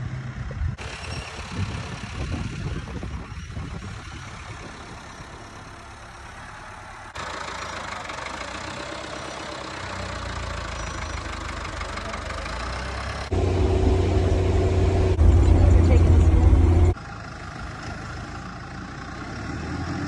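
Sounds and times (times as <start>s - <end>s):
vehicle engine running: 0.0s - 19.6s.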